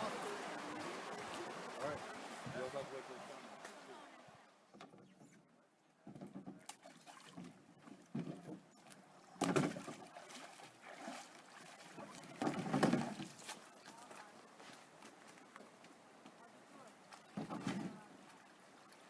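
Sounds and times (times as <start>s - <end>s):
water splashing around a canoe: 0.0s - 19.0s.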